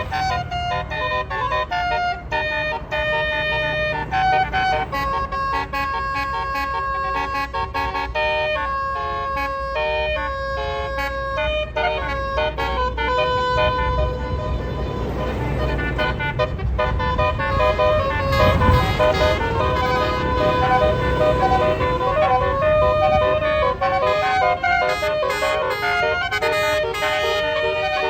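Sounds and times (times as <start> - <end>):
bus engine rumbling: 0.0 - 28.0
bus horn playing a melody: 0.0 - 28.0.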